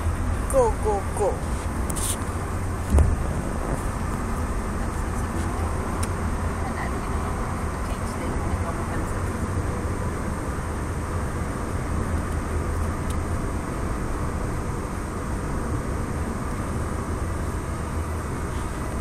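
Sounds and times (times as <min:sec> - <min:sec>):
car interior engine and road noise: 0:00.0 - 0:19.0.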